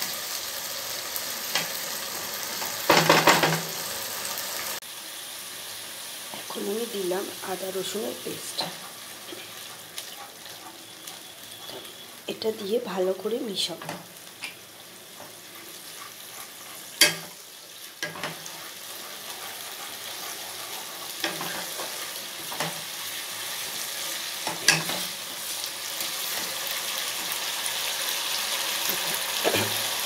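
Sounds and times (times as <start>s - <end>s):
paste sizzling in oil: 0.0s - 30.0s.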